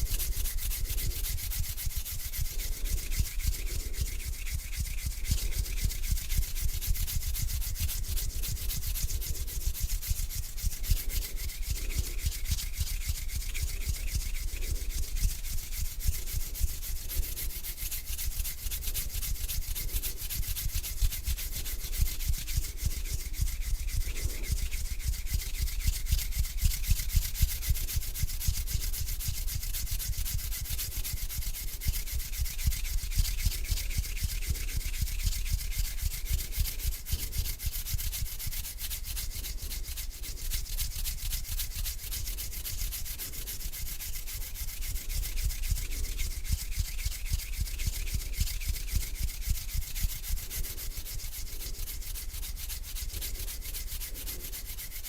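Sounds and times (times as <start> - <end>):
hands rubbing together: 0.0 - 55.0.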